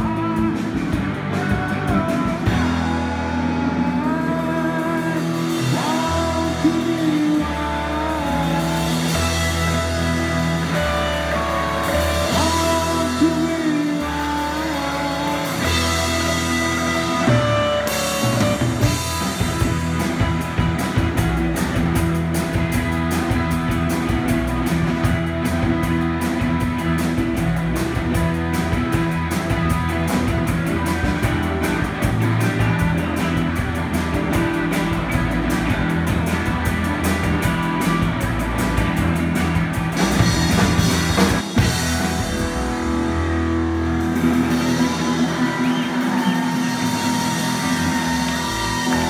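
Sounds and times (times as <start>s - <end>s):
electric guitars: 0.0s - 49.0s
fast steady drum beat: 0.0s - 49.0s.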